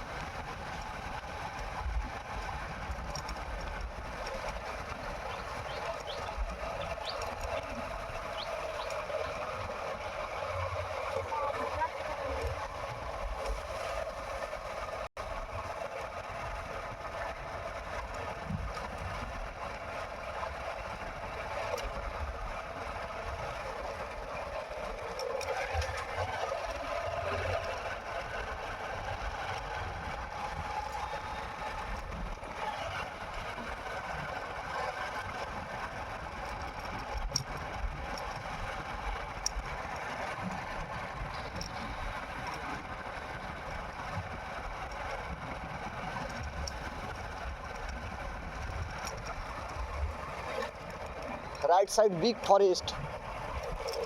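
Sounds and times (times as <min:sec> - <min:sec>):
motorcycle engine running: 0:00.0 - 0:54.0
wind rumbling on microphone: 0:00.0 - 0:54.0.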